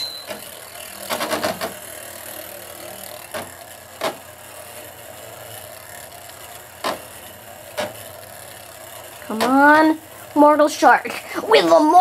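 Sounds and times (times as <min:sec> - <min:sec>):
spinning tops whirring: 0:00.0 - 0:12.0.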